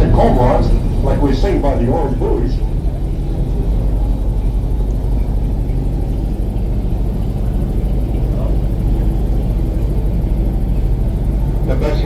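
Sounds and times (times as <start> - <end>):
airboat engine droning: 0.0 - 12.0.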